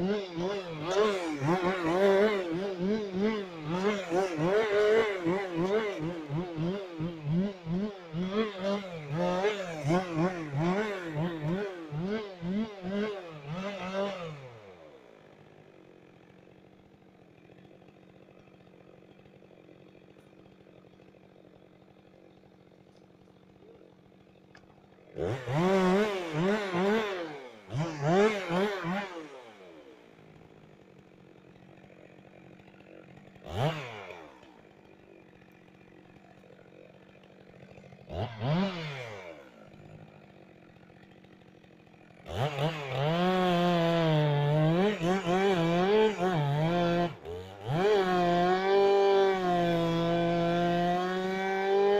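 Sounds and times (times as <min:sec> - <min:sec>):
chainsaw idling and revving: 0:00.0 - 0:51.9.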